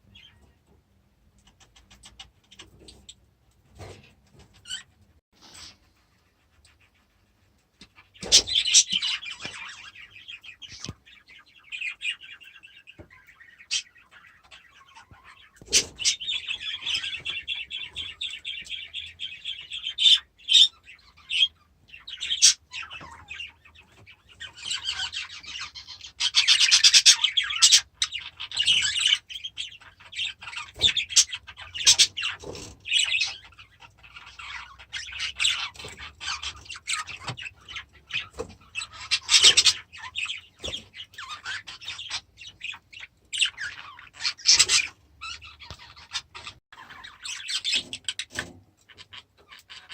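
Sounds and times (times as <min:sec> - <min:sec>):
budgerigars chattering and chirping: 0:01.4 - 0:03.2, 0:03.8 - 0:05.9, 0:07.8 - 0:49.9.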